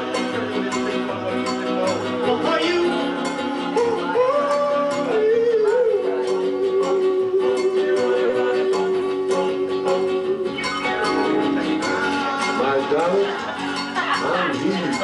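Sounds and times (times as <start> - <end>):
person singing long notes: 0.0 - 14.7
instruments with steady beat: 0.0 - 15.0.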